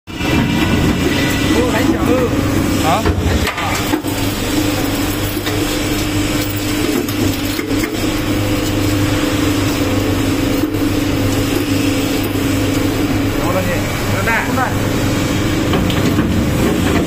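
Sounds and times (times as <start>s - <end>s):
shredder mechanical hum: 0.1s - 17.0s.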